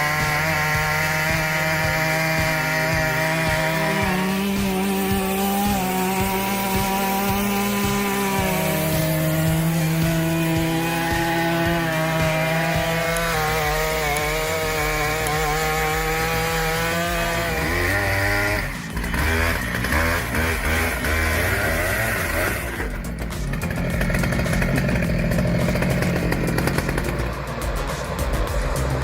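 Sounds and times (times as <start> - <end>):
chainsaw cutting log: 0.0 - 29.0
engine rising and falling in pitch: 0.0 - 29.0.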